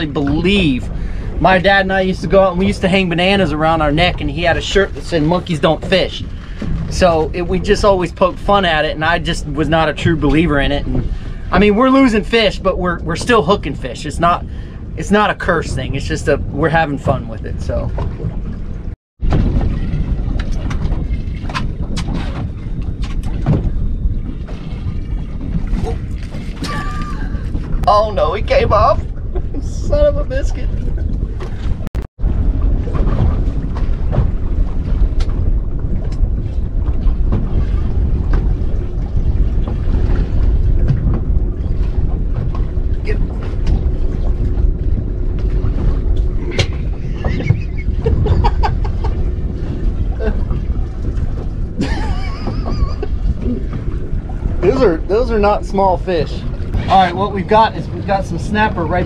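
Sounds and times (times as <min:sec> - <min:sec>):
wind rumbling on microphone: 0:00.0 - 0:59.0.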